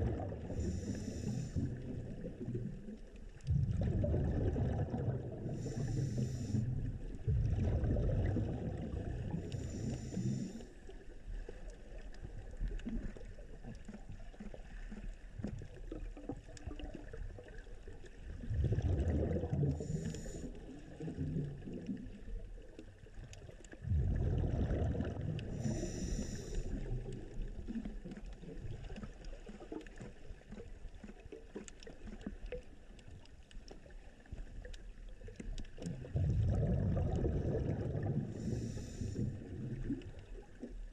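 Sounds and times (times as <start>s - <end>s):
underwater water rushing: 0.0s - 40.9s.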